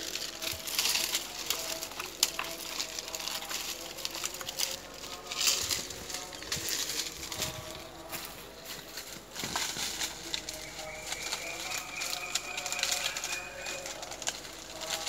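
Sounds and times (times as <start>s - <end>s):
dry palm fronds rustling: 0.0s - 15.0s
leaves snapping: 0.0s - 15.0s.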